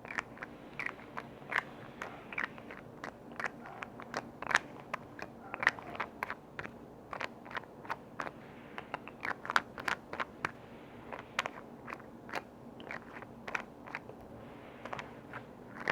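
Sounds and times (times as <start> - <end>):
tapping and clicking on lids: 0.0 - 15.9.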